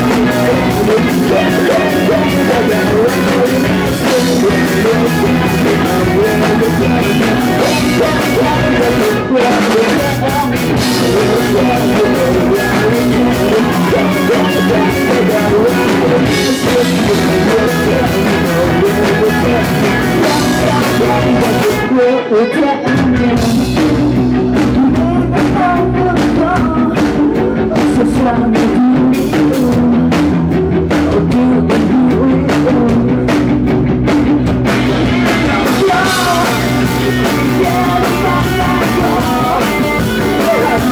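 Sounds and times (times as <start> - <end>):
drum kit: 0.0 - 40.9
electric guitars: 0.0 - 40.9
man singing: 0.0 - 40.9.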